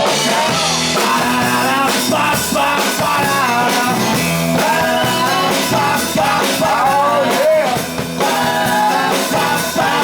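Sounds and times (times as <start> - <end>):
live rock band playing: 0.0 - 10.0.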